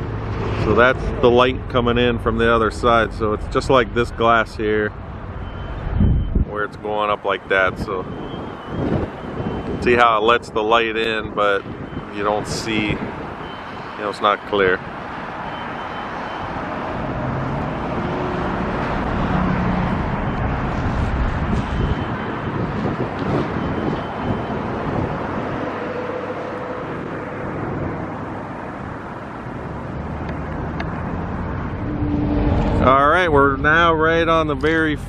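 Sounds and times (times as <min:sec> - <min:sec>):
motor vehicle rushing: 0:00.0 - 0:06.5, 0:11.0 - 0:35.0.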